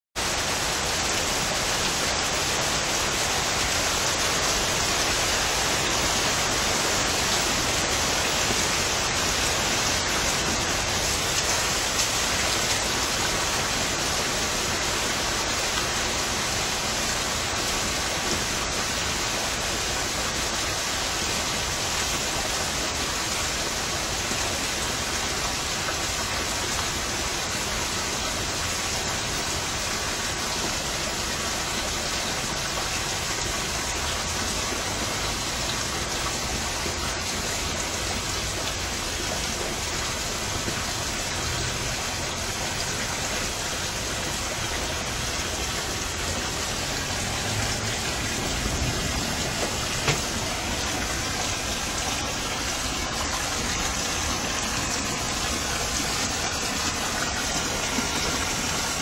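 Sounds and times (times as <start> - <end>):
steady rain hiss: 0.2 - 59.0.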